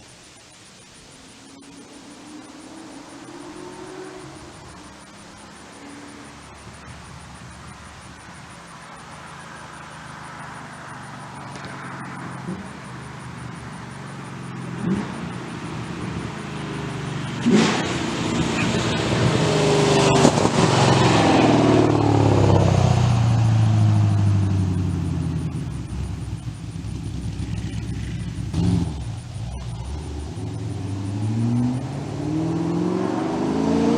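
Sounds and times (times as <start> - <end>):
car engine accelerating hard: 0.7 - 33.9.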